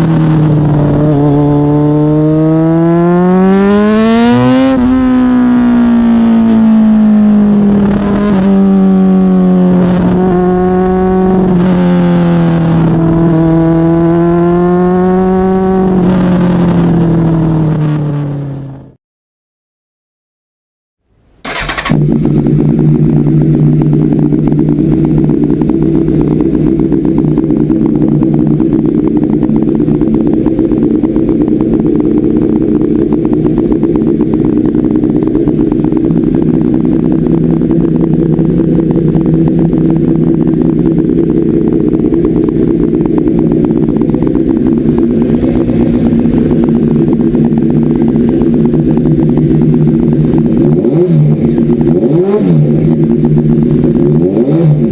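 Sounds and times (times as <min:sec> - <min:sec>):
motorcycle engine running steadily: 0:00.0 - 0:19.0, 0:21.4 - 0:54.9.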